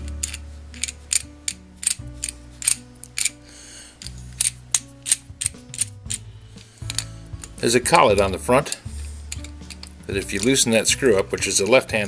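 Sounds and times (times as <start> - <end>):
metallic clicks and clinks: 0.0 - 10.7
soft background music: 0.0 - 12.0.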